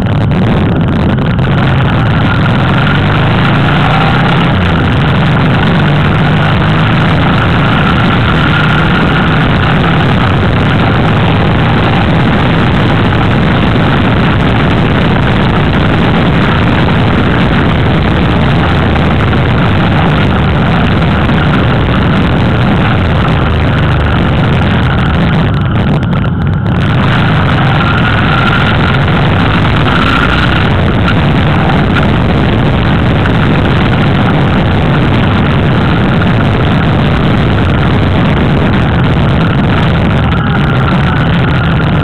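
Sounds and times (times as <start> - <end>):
motorcycle engine drone: 0.0 - 42.0
wind noise on microphone: 0.0 - 42.0.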